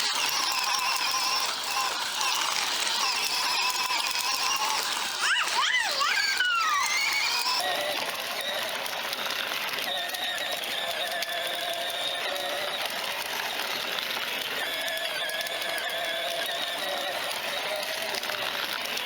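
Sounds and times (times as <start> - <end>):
electric toy motor whining: 0.0 - 19.0.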